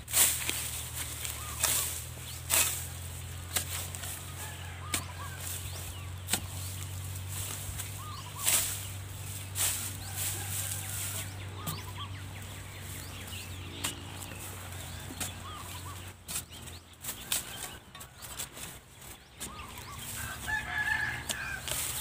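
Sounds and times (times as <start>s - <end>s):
metal bar striking dry soil: 0.0s - 22.0s.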